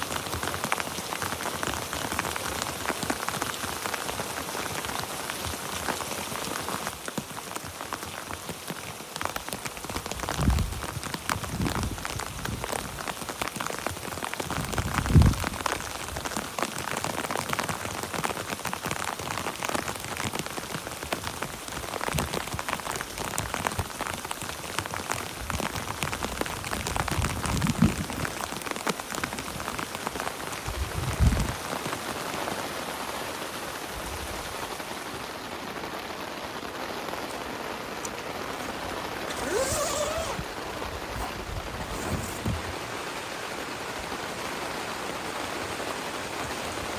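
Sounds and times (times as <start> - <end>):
heavy rain pattering: 0.0 - 46.9.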